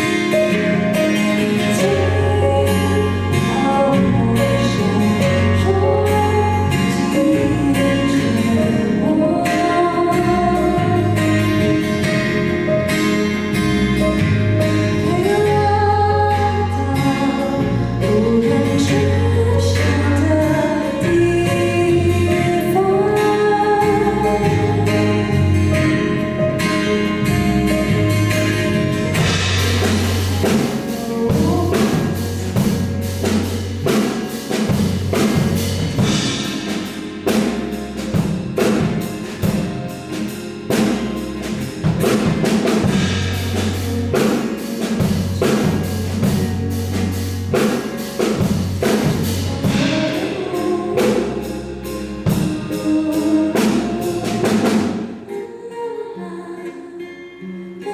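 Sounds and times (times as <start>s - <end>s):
drums: 0.0s - 55.3s
live band playing pop song: 0.0s - 55.3s.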